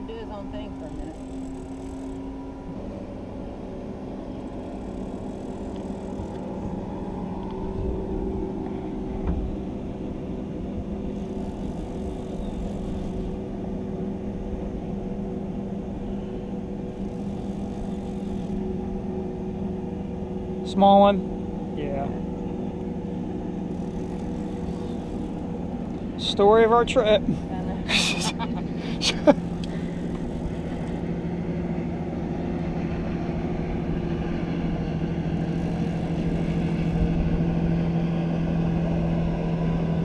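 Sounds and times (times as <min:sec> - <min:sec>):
boat motor humming: 0:00.0 - 0:40.0.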